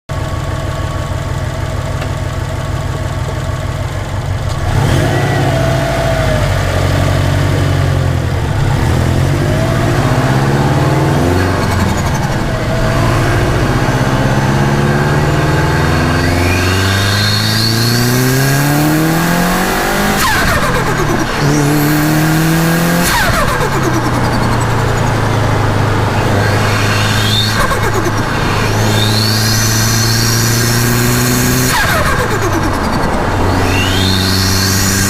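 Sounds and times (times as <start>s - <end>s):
car engine idling and revving: 0.1s - 35.0s.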